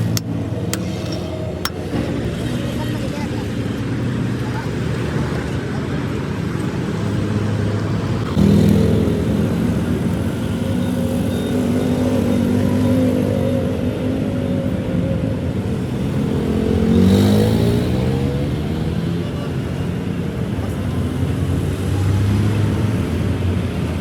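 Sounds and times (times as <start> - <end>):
engine running and revving: 0.0 - 24.0.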